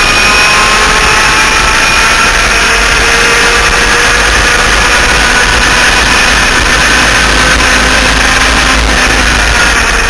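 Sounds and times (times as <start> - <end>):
two-stroke kart engines at high revs: 0.0 - 10.0
wind rush over microphone: 0.0 - 10.0.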